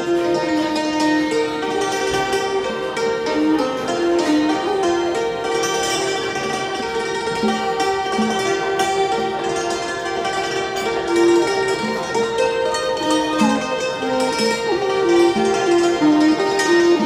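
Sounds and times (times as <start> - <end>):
hammered dulcimer melody: 0.0 - 17.0.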